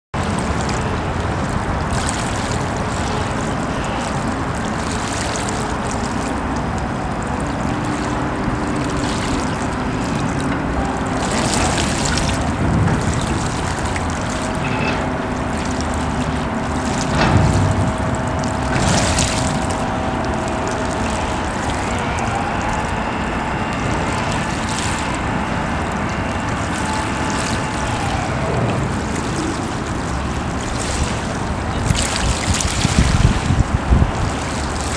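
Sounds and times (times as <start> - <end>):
distant motorboat drone: 0.2 - 34.9
water rushing: 0.2 - 34.9
water splashing: 0.2 - 34.9.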